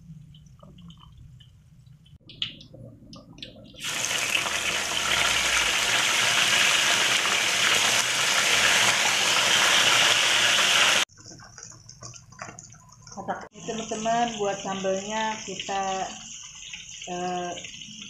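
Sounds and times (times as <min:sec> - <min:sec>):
fish deep-frying in hot oil: 0:03.2 - 0:18.0.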